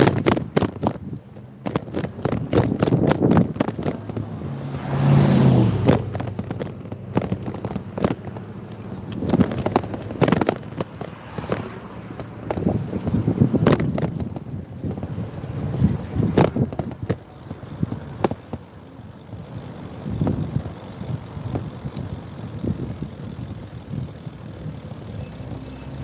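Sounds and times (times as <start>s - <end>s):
wind buffeting microphone: 0.0s - 25.3s
motorbike engine running: 0.0s - 26.0s.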